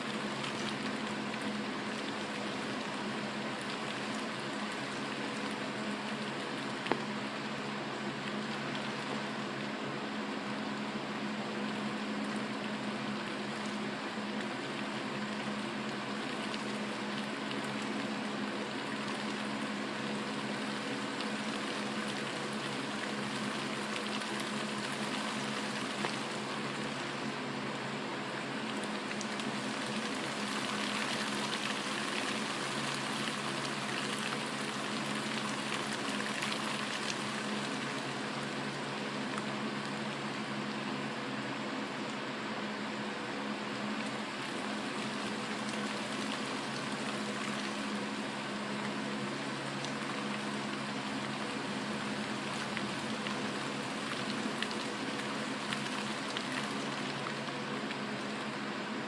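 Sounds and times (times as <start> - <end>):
constant low hum: 0.0 - 59.0
steady rain falling: 0.0 - 59.0.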